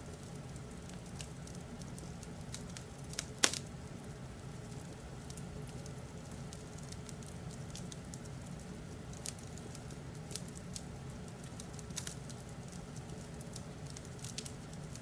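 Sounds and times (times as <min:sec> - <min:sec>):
fireplace crackling: 0:00.0 - 0:15.0
steady low hum: 0:00.0 - 0:15.0.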